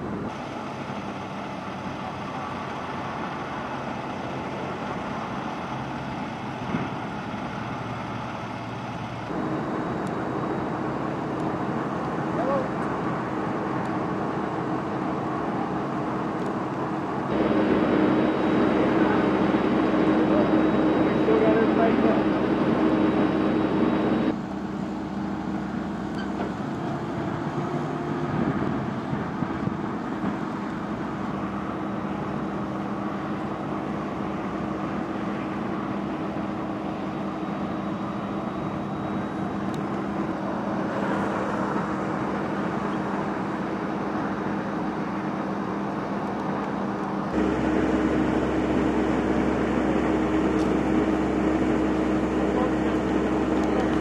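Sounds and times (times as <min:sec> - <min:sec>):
steady low hum: 0:00.0 - 0:27.6, 0:28.3 - 0:54.0
highway traffic rushing: 0:00.0 - 0:54.0.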